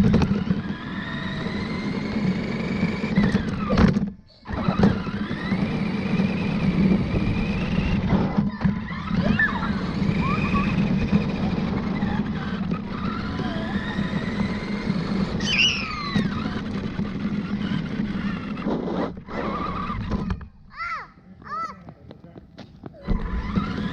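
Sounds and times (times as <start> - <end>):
toy truck motor whining: 0.0 - 21.0, 23.0 - 23.9.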